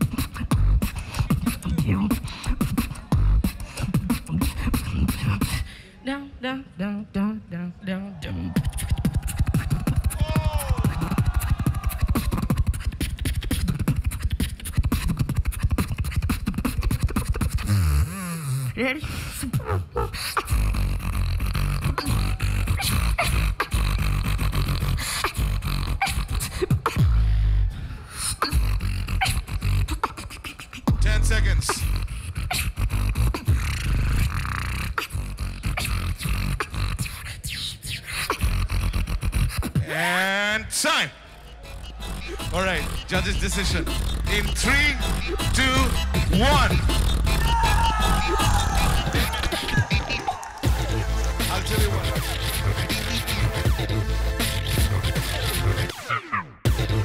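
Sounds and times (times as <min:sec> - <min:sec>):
person beatboxing into microphone: 0:00.0 - 0:05.8, 0:08.3 - 0:56.1.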